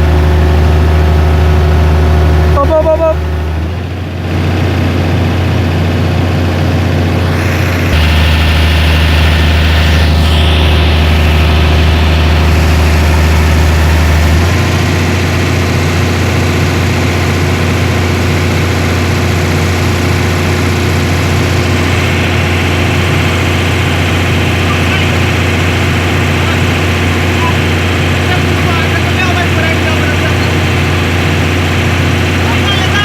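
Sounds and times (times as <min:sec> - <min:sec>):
diesel engine humming: 0:00.0 - 0:33.0.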